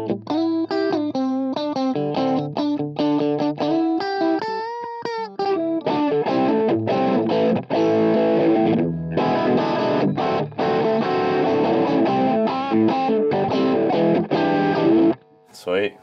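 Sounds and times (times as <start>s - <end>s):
overdriven electric guitar blues lead: 0.0s - 15.2s.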